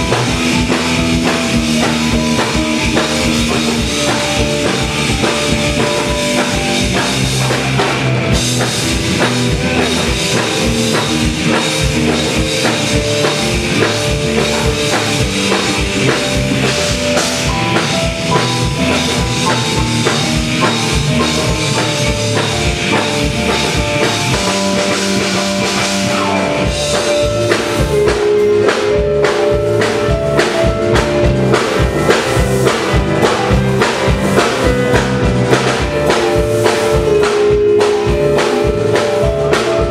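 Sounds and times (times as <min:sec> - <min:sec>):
bass: 0:00.0 - 0:39.9
drum kit playing steady beat: 0:00.0 - 0:39.9
piano: 0:00.0 - 0:39.9.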